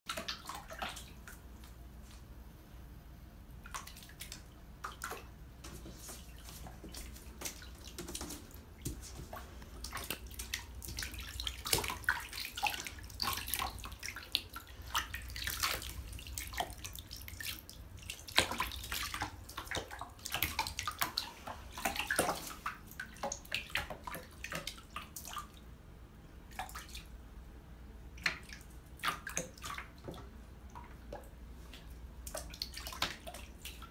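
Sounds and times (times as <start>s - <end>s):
bathwater splashing and dripping: 0.1s - 2.3s, 3.5s - 25.8s, 26.4s - 27.3s, 28.1s - 33.9s.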